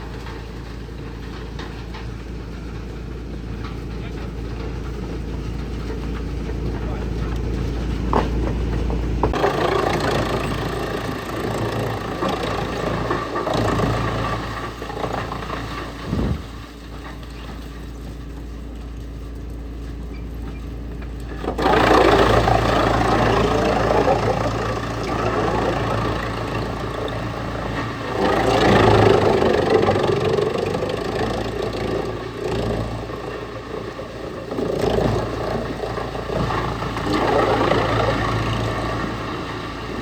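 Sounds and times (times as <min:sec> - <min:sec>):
wood chipper engine running: 0:00.0 - 0:40.0.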